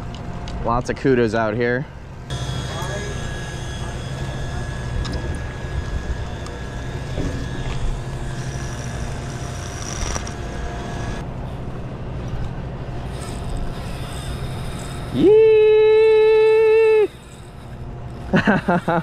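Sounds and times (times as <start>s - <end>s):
faint steady whine: 0.0s - 19.0s
boat machinery droning: 1.2s - 19.0s.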